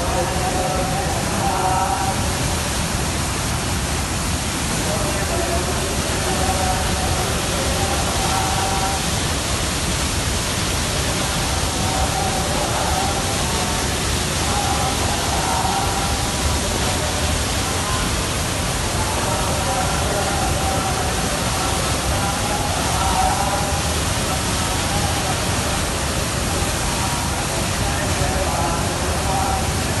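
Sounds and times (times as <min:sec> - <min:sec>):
faint voices: 0:00.0 - 0:09.8, 0:10.5 - 0:30.0
waterfall roaring: 0:00.0 - 0:30.0.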